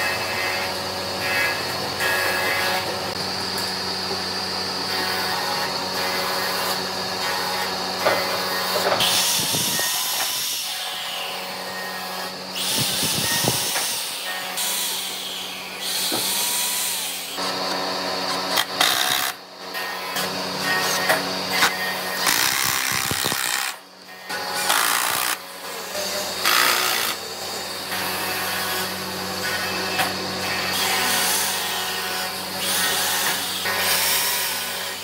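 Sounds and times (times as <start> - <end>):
electric drill boring wood: 0.0 - 35.0.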